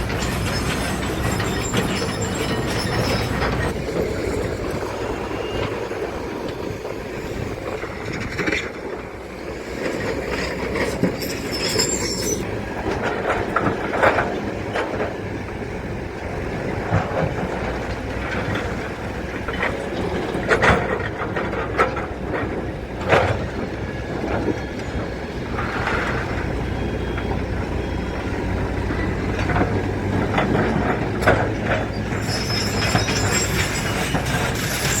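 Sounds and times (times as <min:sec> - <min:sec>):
metal clanks and squeals: 0:00.0 - 0:07.0, 0:09.8 - 0:15.5, 0:16.7 - 0:35.0
diesel engine running: 0:00.0 - 0:35.0.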